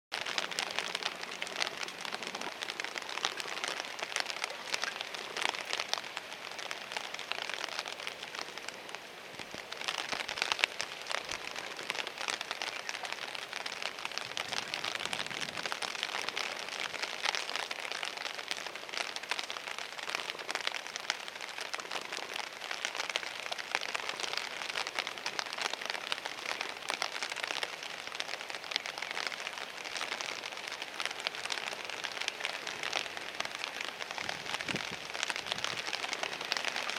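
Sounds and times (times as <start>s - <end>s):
crackling hiss of water: 0.1s - 36.9s.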